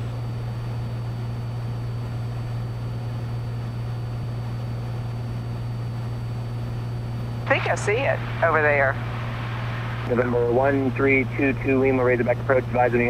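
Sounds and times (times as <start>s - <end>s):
plane engine droning in cabin: 0.0s - 13.0s.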